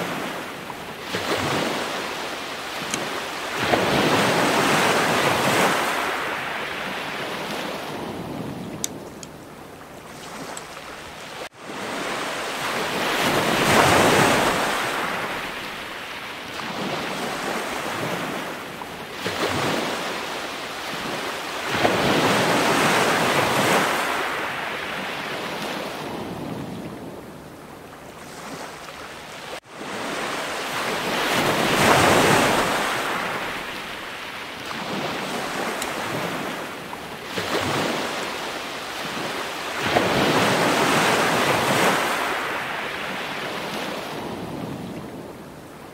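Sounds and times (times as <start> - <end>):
ocean waves washing in: 0.0 - 27.4, 28.1 - 45.9.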